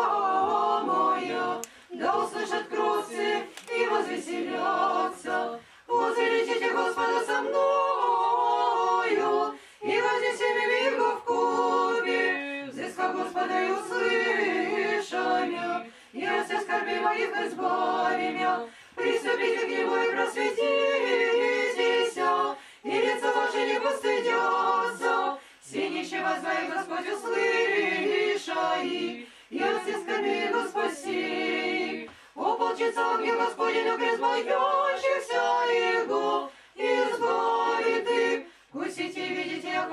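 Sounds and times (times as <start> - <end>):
choir chanting unaccompanied: 0.0 - 39.9.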